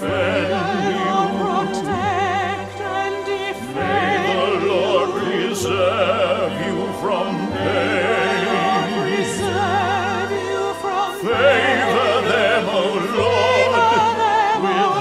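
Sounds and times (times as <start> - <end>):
operatic singing voice: 0.0 - 15.0.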